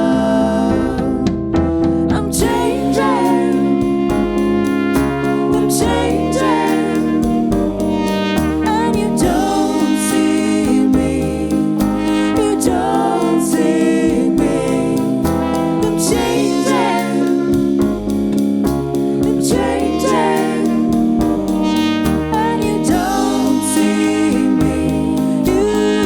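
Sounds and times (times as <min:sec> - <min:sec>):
band music with steady beat: 0:00.0 - 0:26.0.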